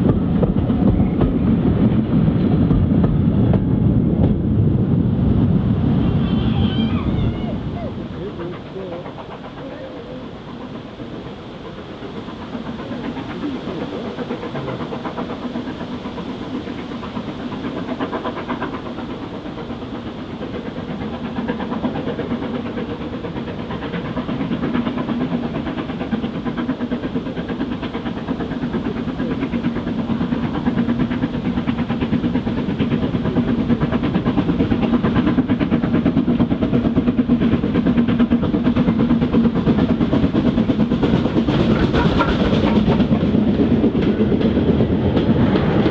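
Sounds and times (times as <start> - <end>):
steam locomotive hauling train: 0.0 - 45.9.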